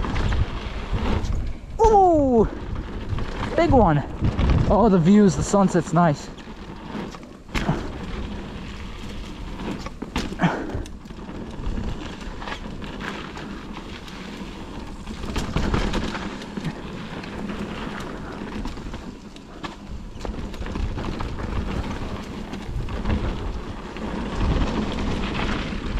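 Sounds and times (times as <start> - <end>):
bike knocks and rattles: 0.0 - 25.9
tyre rumble on dirt: 0.0 - 25.9
wind rush on microphone: 0.0 - 25.9.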